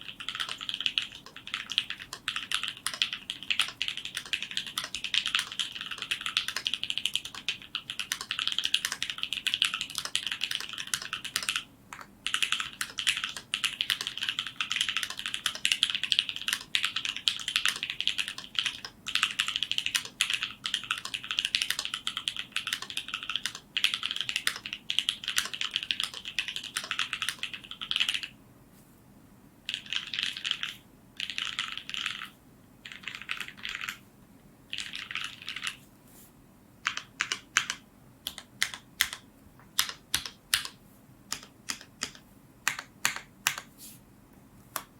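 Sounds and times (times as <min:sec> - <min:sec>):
mechanical keyboard typing: 0:00.0 - 0:28.3, 0:29.7 - 0:34.0, 0:34.7 - 0:35.8, 0:36.8 - 0:43.7.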